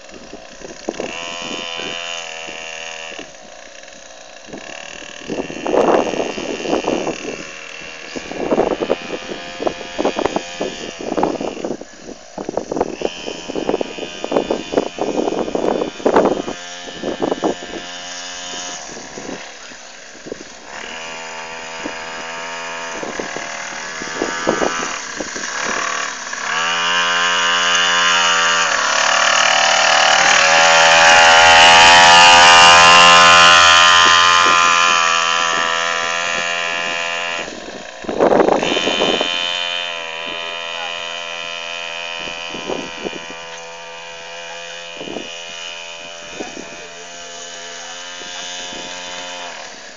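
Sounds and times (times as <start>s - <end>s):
dirt bike engine buzzing: 0.0s - 49.9s.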